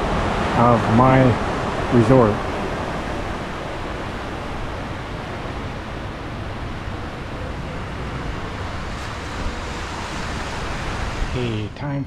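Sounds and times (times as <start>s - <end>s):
small waves breaking on beach: 0.0s - 11.7s
wind rumble on microphone: 0.0s - 12.0s.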